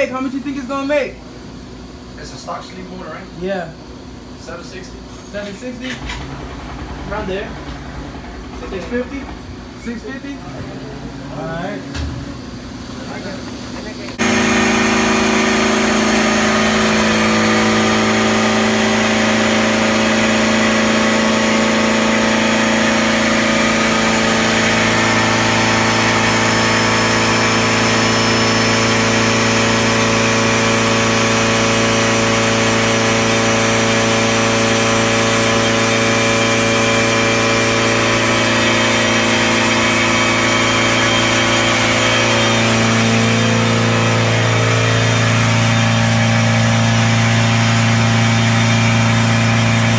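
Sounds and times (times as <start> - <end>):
car engine running steadily: 6.1 - 49.9.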